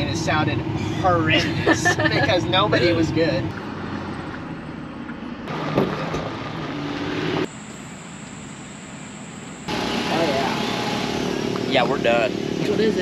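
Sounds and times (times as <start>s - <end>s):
outdoor background noise: 0.0s - 13.0s
road and engine noise in cab: 0.0s - 13.0s.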